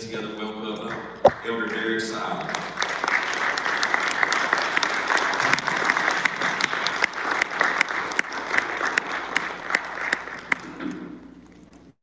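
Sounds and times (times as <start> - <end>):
audience applauding: 1.3 - 11.2.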